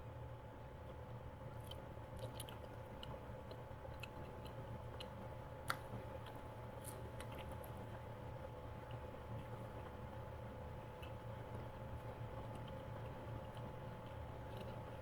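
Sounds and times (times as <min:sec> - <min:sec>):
person chewing bread: 0:01.6 - 0:15.0.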